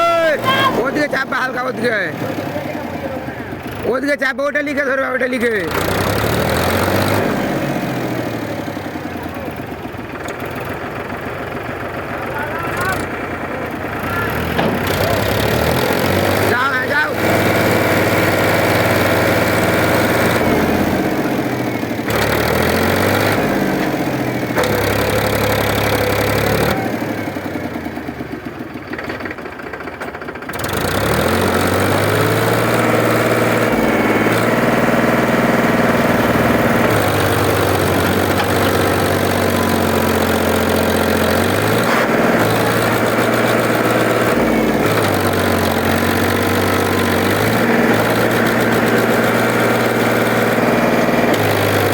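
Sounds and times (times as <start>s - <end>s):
tractor diesel engine revving: 0.0s - 51.9s.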